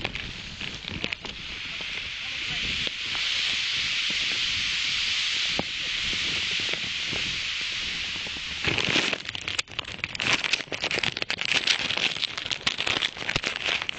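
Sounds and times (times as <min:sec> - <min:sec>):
wind hiss on microphone: 0:00.0 - 0:13.9.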